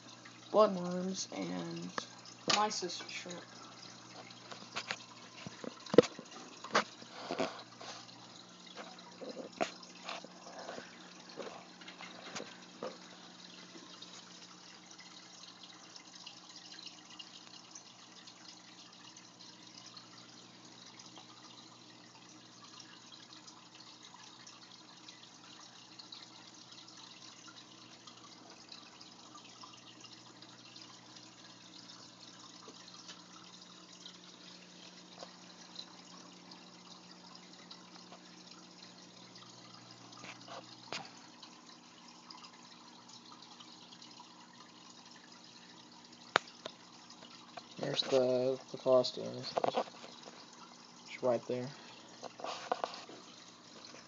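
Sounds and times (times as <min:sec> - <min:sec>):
aquarium water trickling: 0:00.0 - 0:54.0
low steady hum: 0:00.0 - 0:54.0
sharp drips and knocks: 0:00.0 - 0:54.0.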